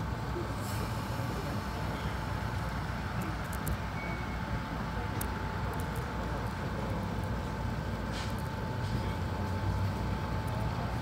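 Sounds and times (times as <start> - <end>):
constant high hum: 0.0 - 11.0
train cabin low rumble: 0.0 - 11.0.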